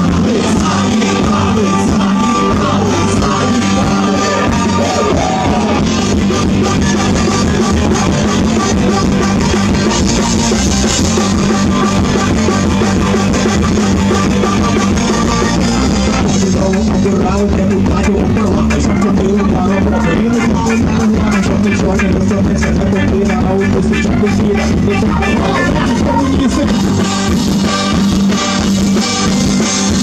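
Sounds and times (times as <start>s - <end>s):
drum kit: 0.0s - 30.0s
electric guitars: 0.0s - 30.0s.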